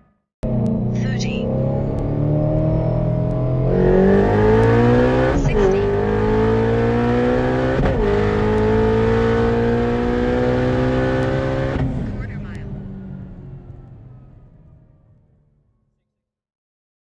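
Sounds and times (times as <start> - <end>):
car engine revving at full throttle: 0.4 - 14.5.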